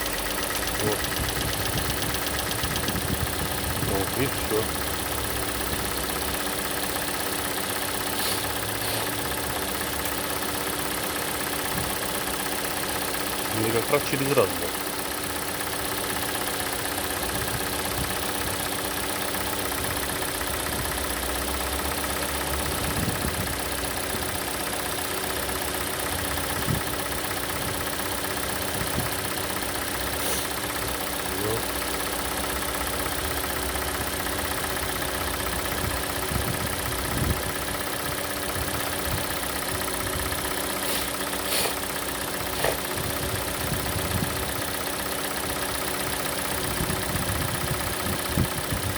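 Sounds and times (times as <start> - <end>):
car engine idling: 0.0 - 48.9
sharp ticking clicks: 0.0 - 48.9.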